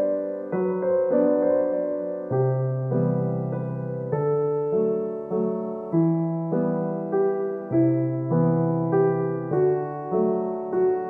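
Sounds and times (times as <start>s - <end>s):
keyboard playing soft chords: 0.0s - 11.0s.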